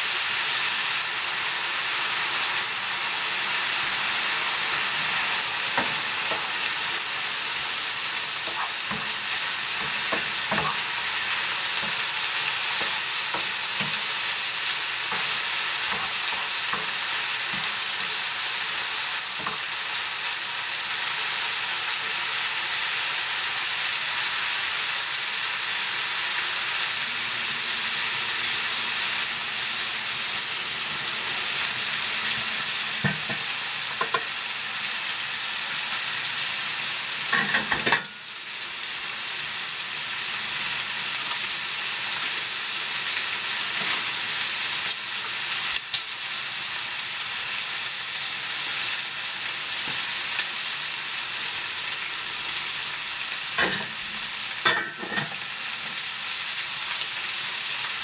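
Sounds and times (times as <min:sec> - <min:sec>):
bacon sizzling in a pan: 0:00.0 - 0:58.0.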